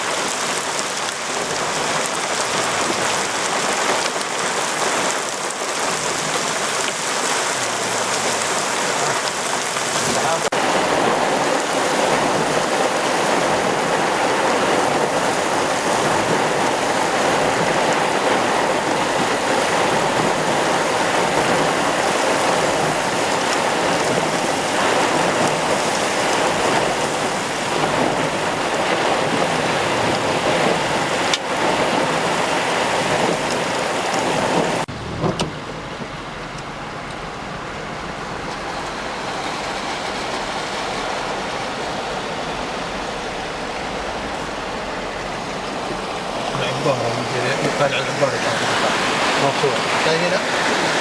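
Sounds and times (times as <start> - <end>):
heavy rain: 0.0 - 51.0
running floodwater: 0.0 - 51.0.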